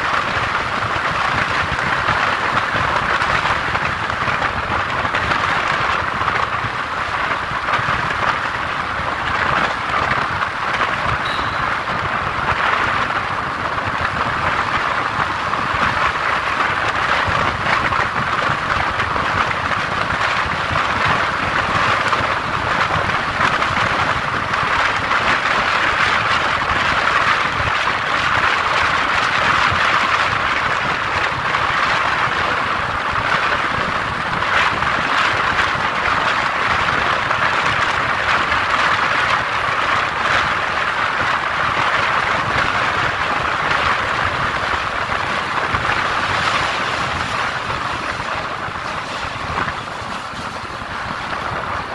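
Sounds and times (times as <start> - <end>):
tyre and wind noise in tunnel: 0.0 - 51.9.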